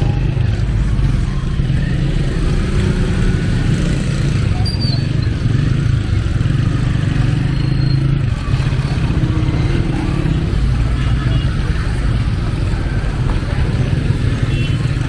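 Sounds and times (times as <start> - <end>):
dense road traffic rumble: 0.0 - 15.0.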